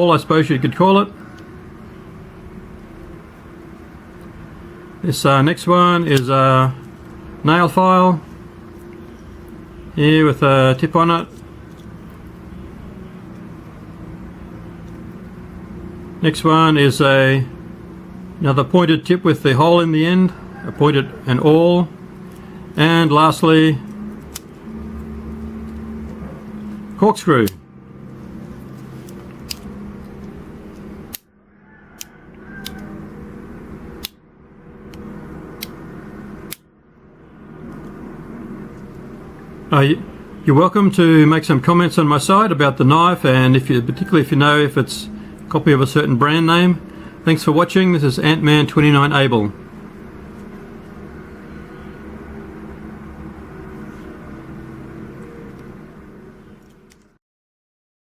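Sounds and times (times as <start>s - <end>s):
low steady hum: 0.0s - 57.2s.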